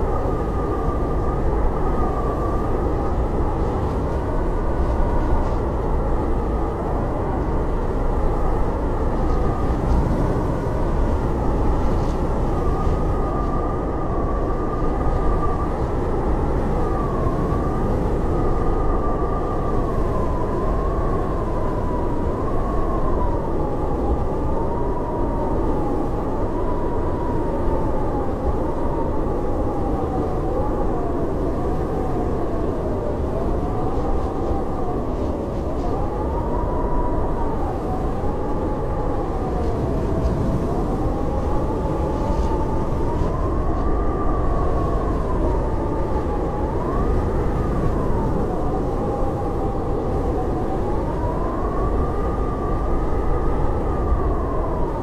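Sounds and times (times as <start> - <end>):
howling blizzard wind: 0.0 - 55.0.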